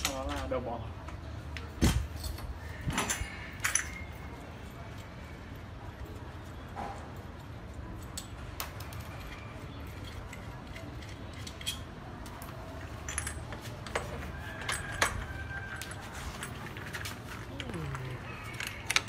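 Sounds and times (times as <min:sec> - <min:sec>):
metal parts and tools clinking: 0:00.0 - 0:19.0.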